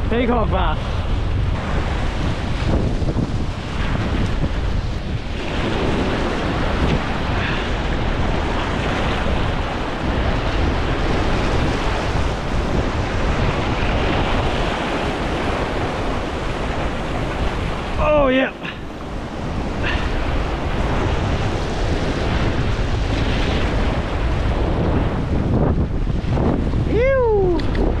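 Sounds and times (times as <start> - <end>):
wind rumbling on microphone: 0.0 - 28.0
surf breaking over rocks: 0.1 - 28.0.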